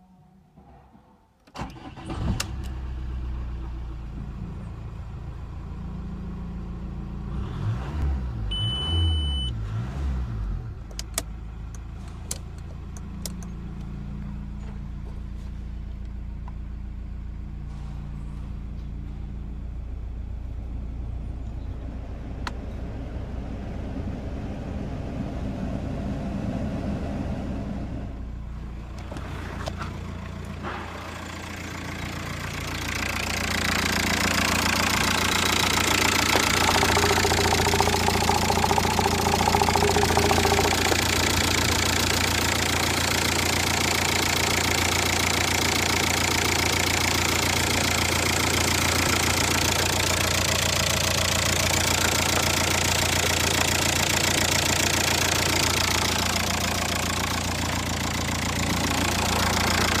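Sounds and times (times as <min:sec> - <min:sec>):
diesel engine idling: 0:10.9 - 1:00.0.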